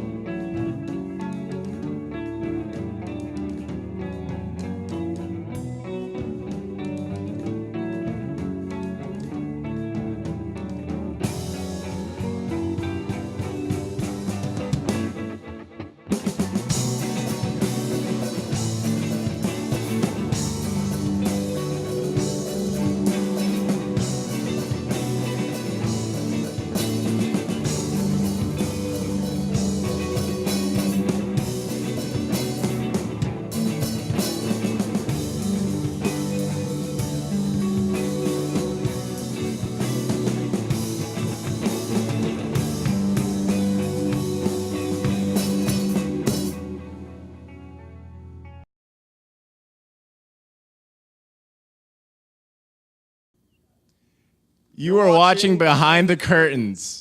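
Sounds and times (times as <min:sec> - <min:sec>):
psychedelic rock band playing: 0:00.0 - 0:48.1.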